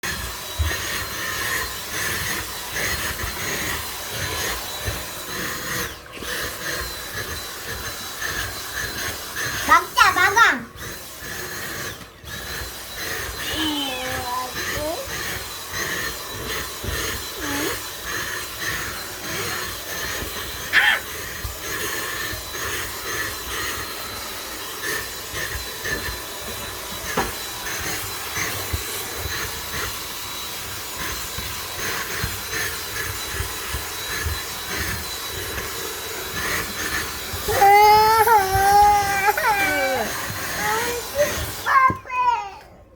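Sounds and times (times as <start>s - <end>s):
vacuum cleaner whining: 0.0s - 42.9s.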